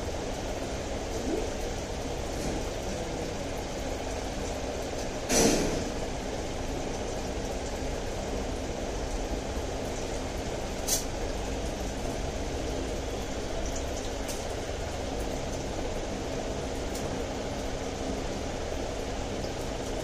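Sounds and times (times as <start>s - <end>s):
aquarium pump hum: 0.0s - 20.0s.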